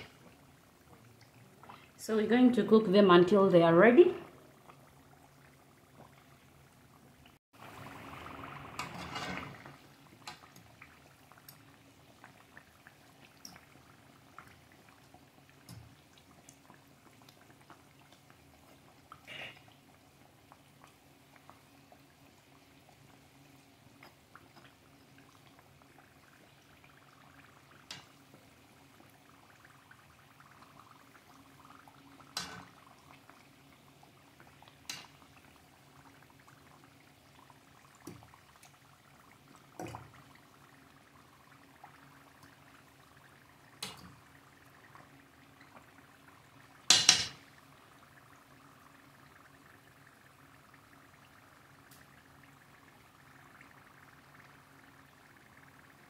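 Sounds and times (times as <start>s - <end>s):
oil sizzling and bubbling: 0.0s - 56.0s.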